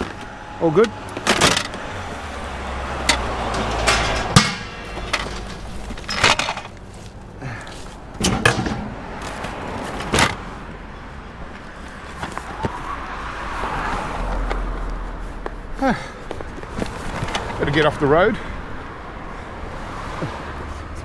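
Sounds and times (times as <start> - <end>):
scrap clunking and rattling: 0.0 - 18.1
vehicle engine rumble: 0.0 - 21.0.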